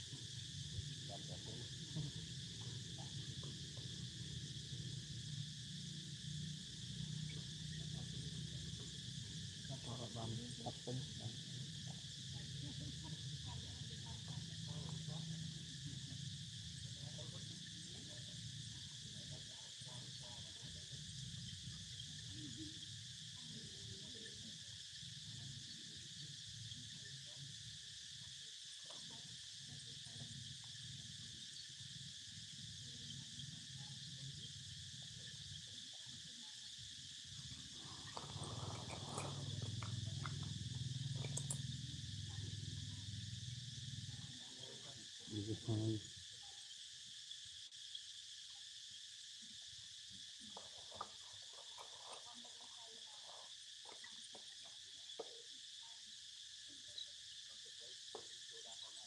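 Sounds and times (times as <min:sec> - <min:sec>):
insect chorus droning: 0:00.0 - 0:59.0.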